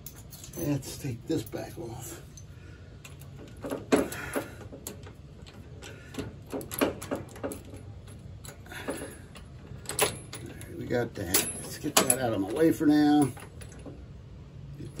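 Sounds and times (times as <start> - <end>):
metallic clicks and clinks: 0.0 - 13.9
low steady hum: 0.0 - 15.0.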